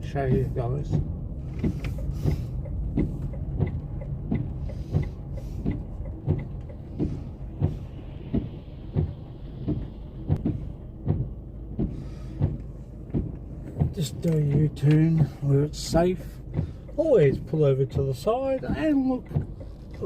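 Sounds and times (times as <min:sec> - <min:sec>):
car engine and road hum: 0:00.0 - 0:20.0
regular ticking knock: 0:00.0 - 0:20.0.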